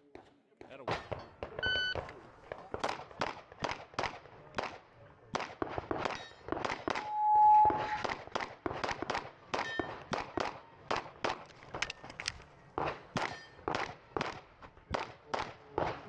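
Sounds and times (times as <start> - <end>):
sharp cracks: 0.1 - 4.8, 5.4 - 7.1, 7.9 - 16.0
rapid pistol shots: 0.7 - 7.0, 8.0 - 12.1, 12.8 - 16.0.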